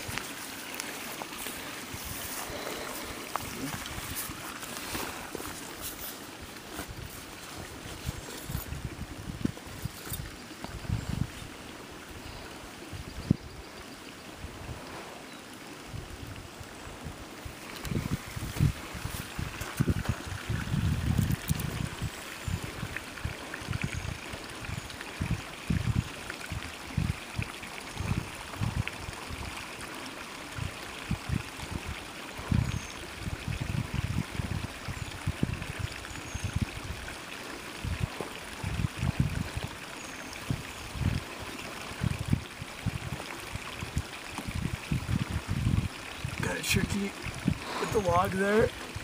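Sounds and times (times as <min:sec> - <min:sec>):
wind gusting on microphone: 0:00.0 - 0:13.7, 0:14.3 - 0:29.6, 0:30.5 - 0:37.2, 0:37.8 - 0:49.0
water trickling: 0:00.0 - 0:49.0.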